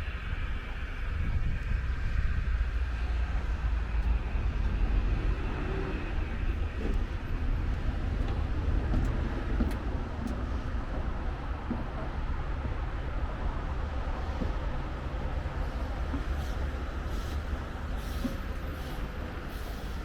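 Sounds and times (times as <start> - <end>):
wind buffeting microphone: 0.0 - 19.5.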